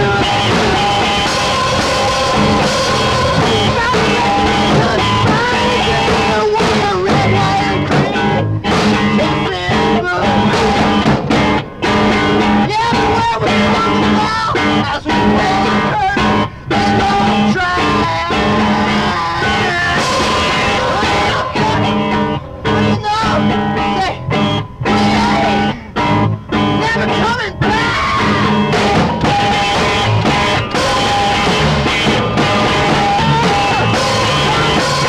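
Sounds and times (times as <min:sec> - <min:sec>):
guitar-led song: 0:00.0 - 0:35.0.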